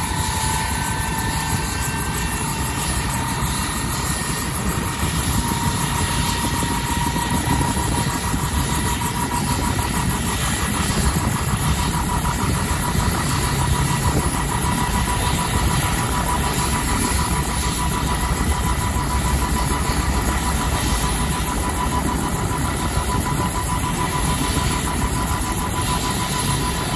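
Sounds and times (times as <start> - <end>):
helicopter turbine engine whine: 0.0 - 26.9
rotor pulsing: 0.0 - 26.9.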